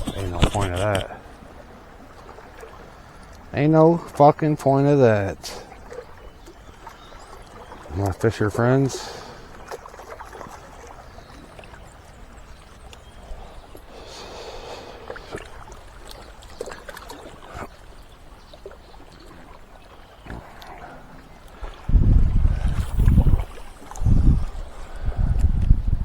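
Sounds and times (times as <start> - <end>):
faint moving water: 0.0 - 26.0.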